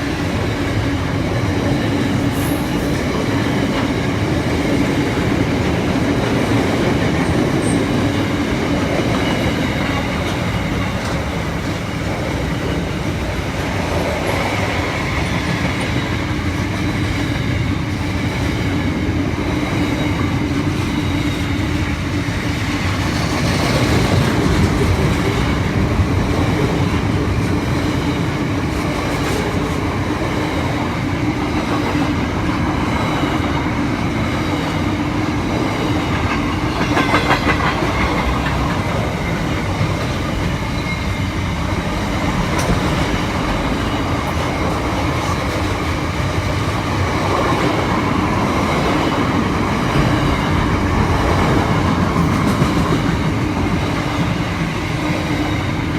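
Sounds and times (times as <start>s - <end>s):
train wagons rumbling: 0.0s - 55.9s.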